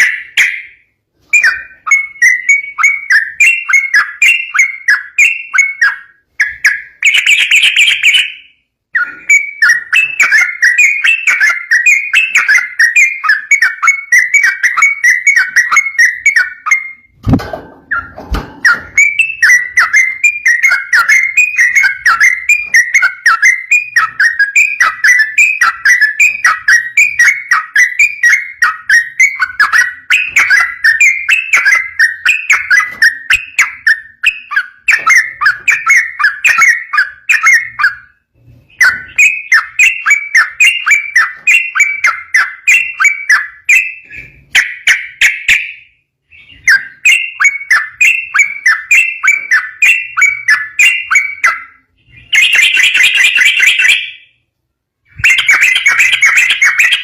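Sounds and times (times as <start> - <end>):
bulbul singing rapid whistled notes: 0.0 - 54.4, 55.1 - 57.0.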